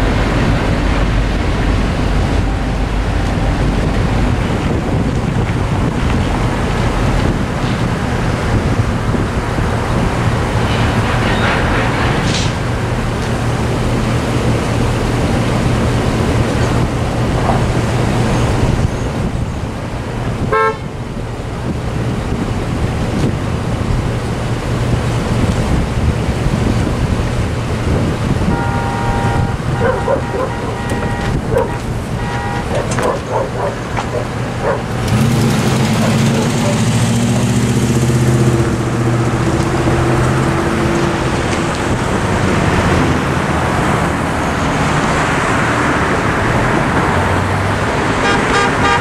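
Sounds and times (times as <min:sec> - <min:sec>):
road traffic: 0:00.0 - 0:49.0
wind: 0:00.0 - 0:49.0.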